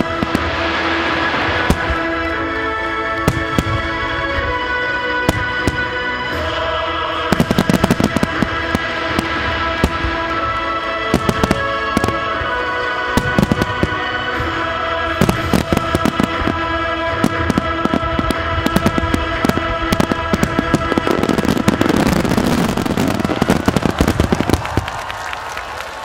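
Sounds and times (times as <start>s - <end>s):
fireworks bursting: 0.0s - 26.0s
music: 0.0s - 26.0s.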